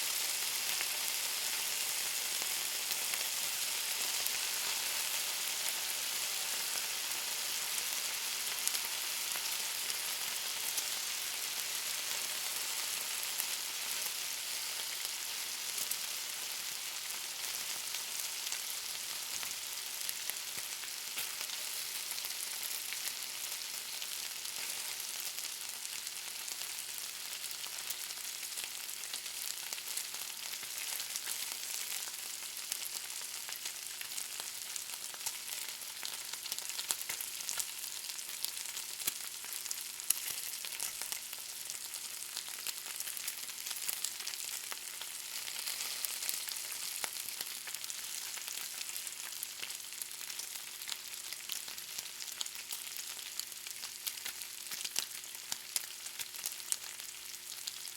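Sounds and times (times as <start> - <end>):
bacon sizzling in a pan: 0.0 - 57.9.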